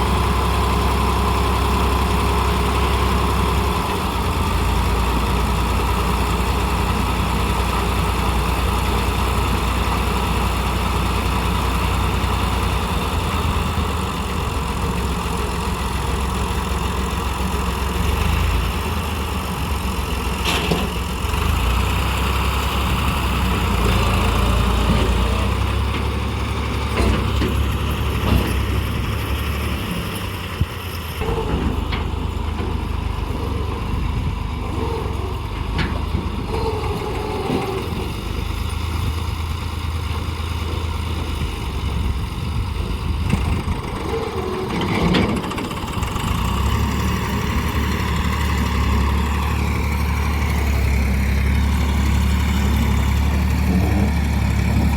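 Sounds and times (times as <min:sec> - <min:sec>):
diesel engine drone: 0:00.0 - 0:54.9.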